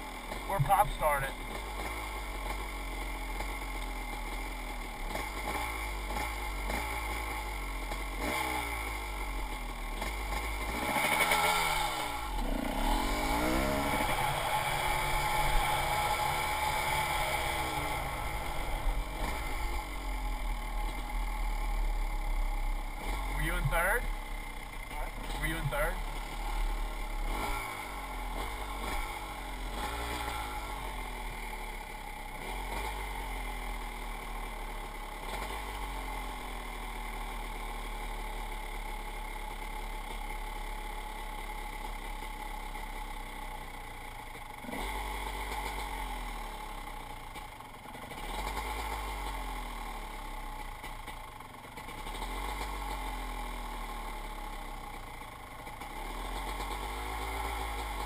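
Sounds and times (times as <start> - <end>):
dirt bike engine revving: 0.0 - 39.8, 44.6 - 46.8, 48.0 - 50.6, 51.7 - 54.6, 55.8 - 58.0.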